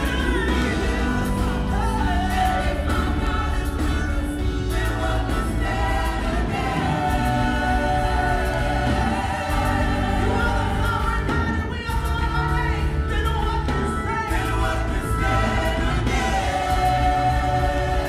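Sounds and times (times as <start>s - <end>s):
bass line: 0.0s - 18.0s
gospel choir singing: 0.0s - 18.0s
lead singers on microphones: 0.0s - 18.0s.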